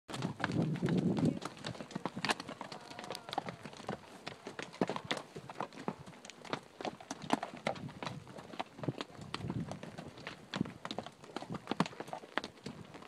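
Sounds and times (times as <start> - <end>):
horse hooves on loose rock: 0.1 - 13.0.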